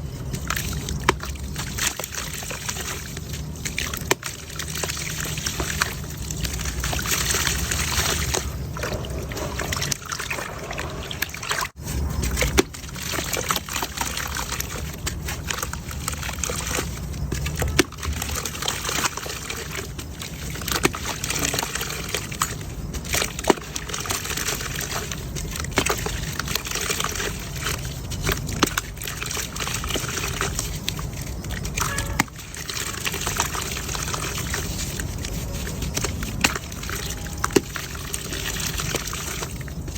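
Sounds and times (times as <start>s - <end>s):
wet mud crumbling in water: 0.0s - 39.9s.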